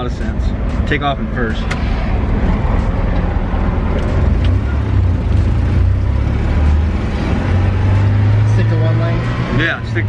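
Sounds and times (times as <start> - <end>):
truck engine and road drone: 0.0 - 10.0.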